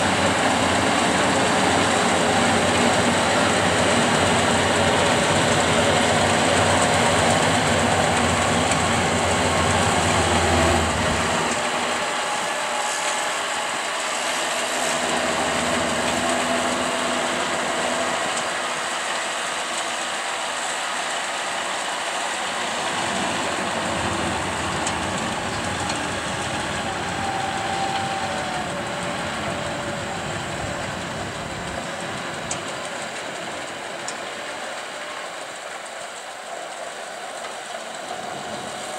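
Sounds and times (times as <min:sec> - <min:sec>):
baler machinery: 0:00.0 - 0:38.9
tractor diesel engine running: 0:00.0 - 0:38.9.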